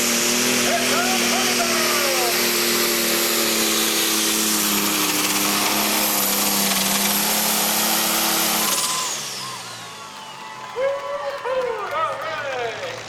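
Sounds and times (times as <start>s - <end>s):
diesel tractor engine at full throttle: 0.0s - 10.6s
high turbo whine: 0.0s - 10.8s.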